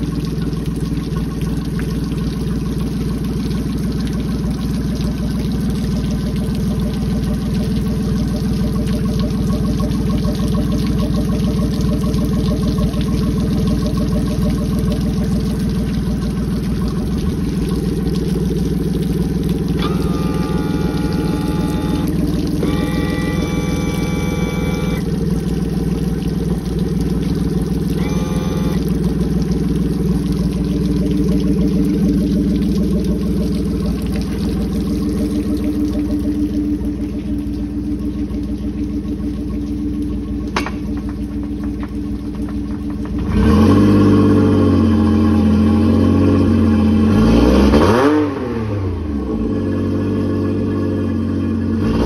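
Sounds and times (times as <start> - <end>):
outboard engine idling and revving: 0.0 - 52.0.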